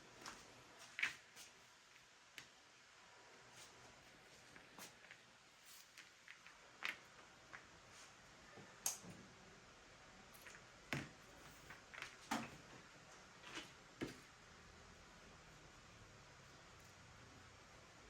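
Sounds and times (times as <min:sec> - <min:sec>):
faint room hum: 0:00.0 - 0:18.0.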